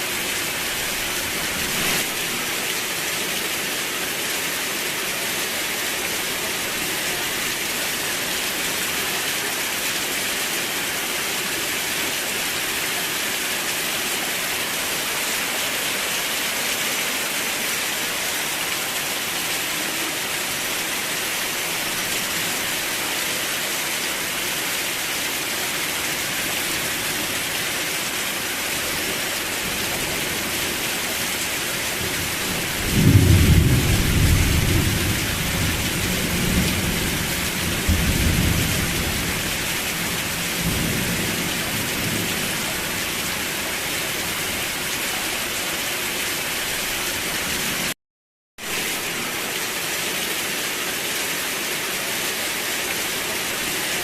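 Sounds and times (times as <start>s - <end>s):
steady rain: 0.0s - 48.0s, 48.6s - 54.0s.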